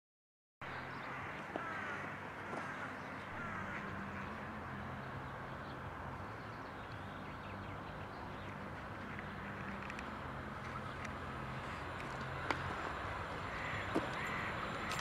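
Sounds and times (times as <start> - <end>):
distant freight train rumble: 0.9 - 15.0.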